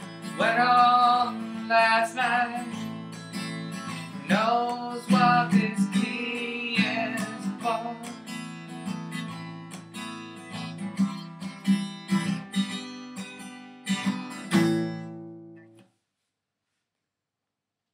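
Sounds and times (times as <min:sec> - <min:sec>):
acoustic guitar strumming: 0:00.0 - 0:15.8.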